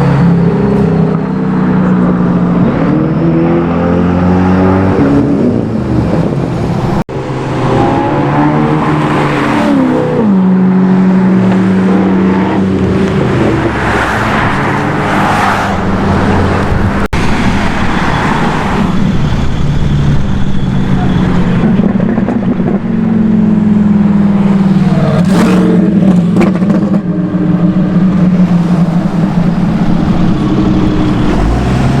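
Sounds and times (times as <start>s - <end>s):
car engines accelerating: 0.0s - 32.0s.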